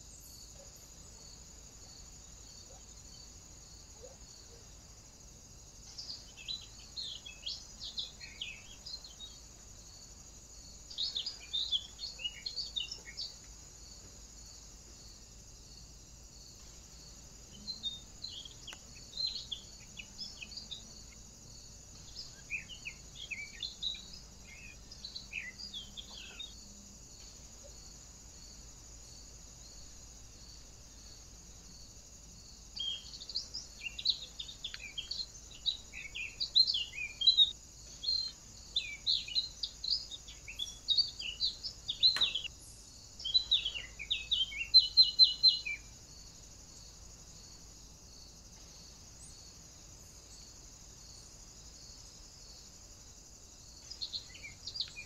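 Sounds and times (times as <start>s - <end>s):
faint high hiss: 0.0s - 55.0s
songbirds chirping and trilling: 0.0s - 55.0s.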